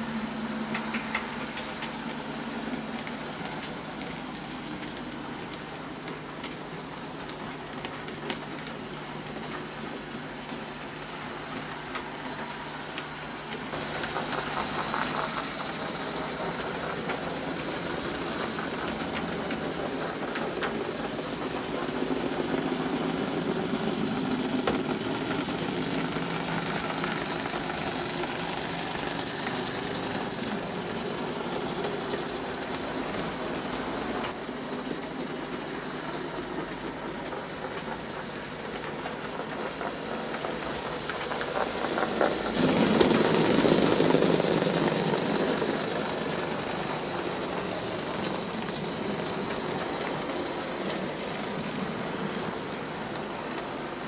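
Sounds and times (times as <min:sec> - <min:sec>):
model trains whirring on track: 0:00.0 - 0:54.0.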